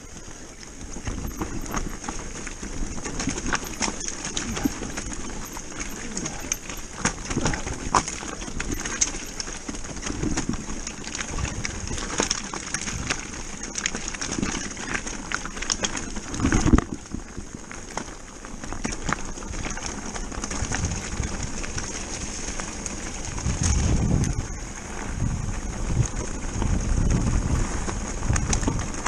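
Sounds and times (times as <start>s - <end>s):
bike rattling and clattering: 0.0s - 29.0s
tyres crunching over stones: 0.0s - 29.0s.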